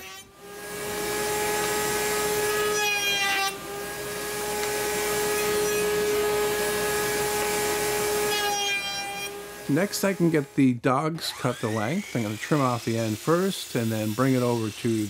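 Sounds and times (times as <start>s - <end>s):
router bit cutting wood: 0.0s - 15.0s
router whining: 0.0s - 15.0s.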